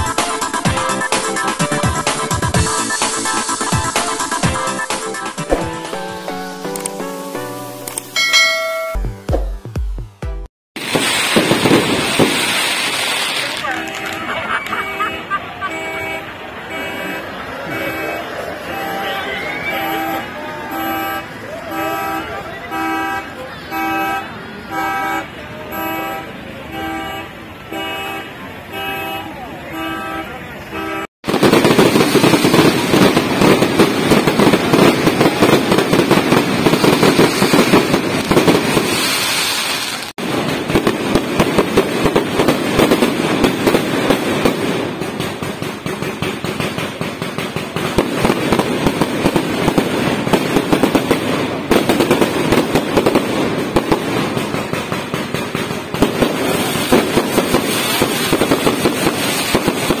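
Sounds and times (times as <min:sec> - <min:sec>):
fireworks crackling and banging: 0:00.0 - 0:07.0, 0:10.8 - 0:26.9, 0:30.7 - 1:00.0.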